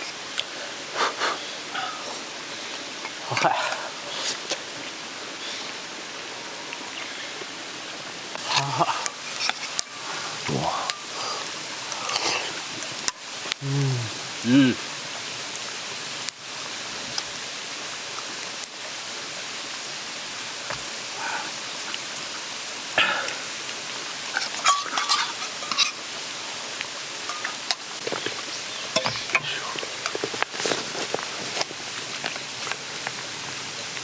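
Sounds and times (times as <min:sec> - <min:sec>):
mountain stream rushing: 0:00.0 - 0:34.0.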